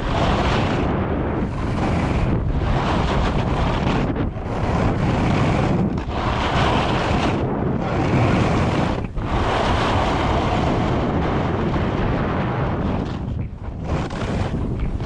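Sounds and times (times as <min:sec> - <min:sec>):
board hissing across snow: 0:00.0 - 0:12.5
wind on microphone: 0:00.0 - 0:15.0.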